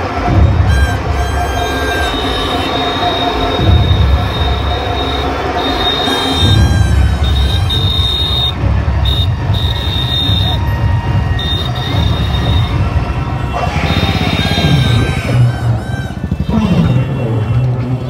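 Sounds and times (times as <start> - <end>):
high steady whistling tone: 0.0 - 18.0
loud outdoor loudspeaker sound: 0.0 - 18.0.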